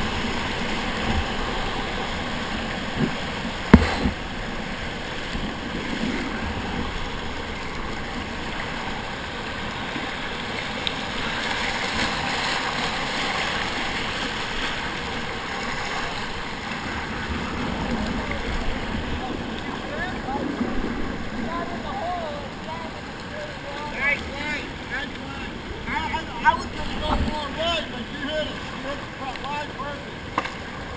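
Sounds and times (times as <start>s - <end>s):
whitewater rushing: 0.0s - 30.9s.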